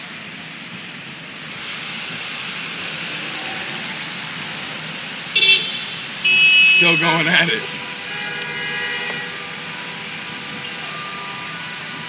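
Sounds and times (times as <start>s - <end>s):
road traffic from inside car: 0.0s - 12.0s.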